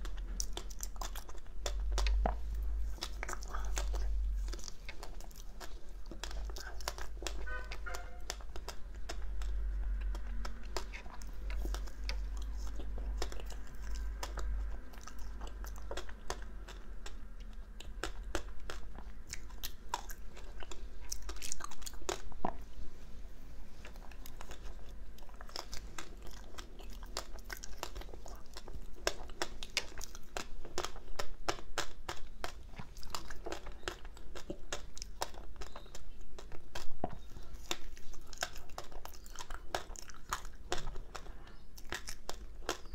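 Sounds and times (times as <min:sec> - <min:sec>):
chewing crunchy ice: 0:00.0 - 0:22.7, 0:23.7 - 0:42.9.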